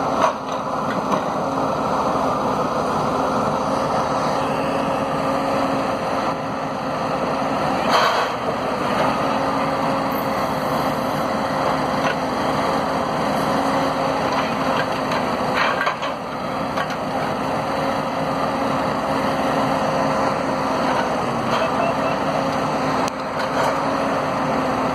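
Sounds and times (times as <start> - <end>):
forestry machine engine running: 0.0 - 24.9
hydraulic crane working: 0.0 - 24.9.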